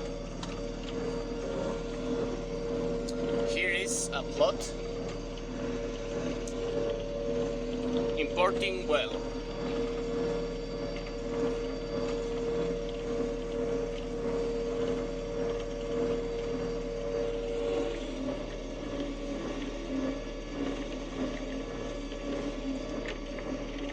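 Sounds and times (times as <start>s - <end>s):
combine harvester drone: 0.0s - 23.9s
steady higher hum: 0.0s - 23.9s.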